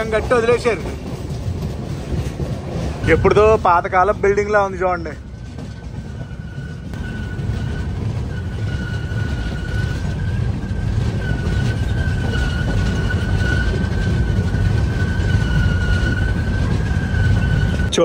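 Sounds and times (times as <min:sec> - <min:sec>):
steady high-pitched squeal: 0:00.0 - 0:18.0
train wheels rumbling: 0:00.0 - 0:18.0
wind buffeting: 0:00.0 - 0:18.0.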